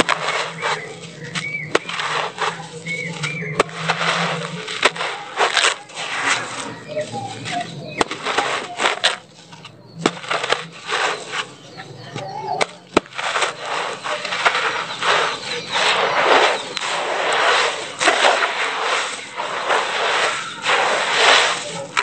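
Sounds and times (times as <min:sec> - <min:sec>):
hands crunching gritty cement mix: 0:00.0 - 0:22.0.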